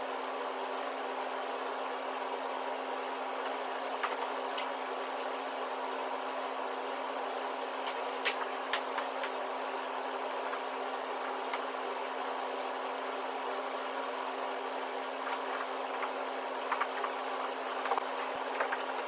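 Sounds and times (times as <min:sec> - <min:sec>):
room noise hum and hiss: 0:00.0 - 0:19.0.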